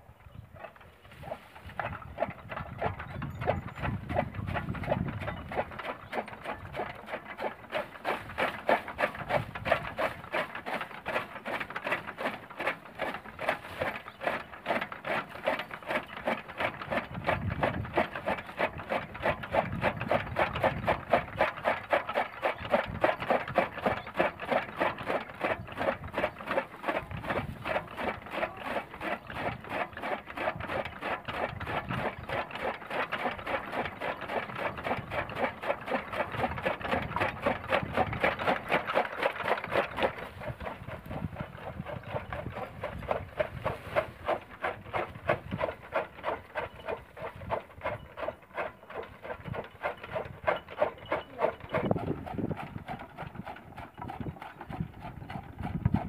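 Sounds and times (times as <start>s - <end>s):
chaff cutter blades clacking: 0.5s - 56.0s.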